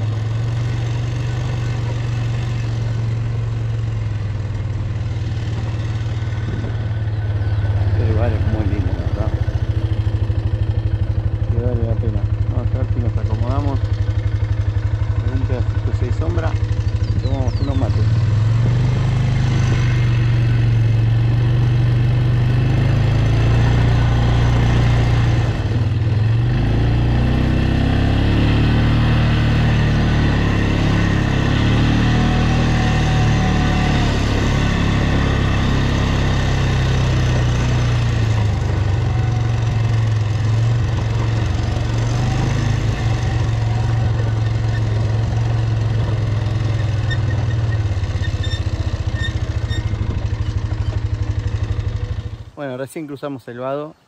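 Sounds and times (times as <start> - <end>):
quad bike engine running: 0.0 - 52.8.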